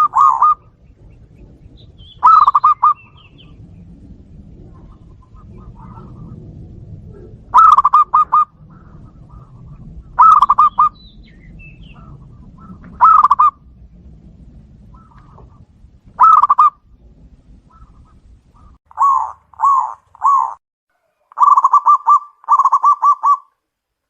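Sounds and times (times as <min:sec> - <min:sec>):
dove cooing: 0:00.0 - 0:03.8, 0:04.4 - 0:13.9, 0:14.8 - 0:16.8, 0:17.6 - 0:23.5.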